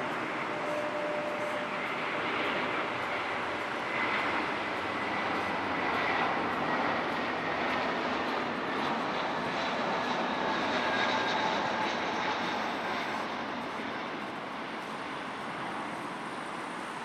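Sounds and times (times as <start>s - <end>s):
jet airliner passing: 0.0s - 17.0s.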